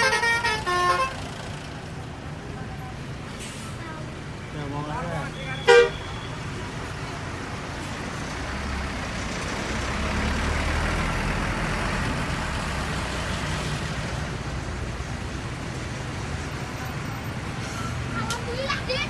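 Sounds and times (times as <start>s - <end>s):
bus engine rumble: 0.0s - 19.0s
road noise: 0.0s - 19.0s.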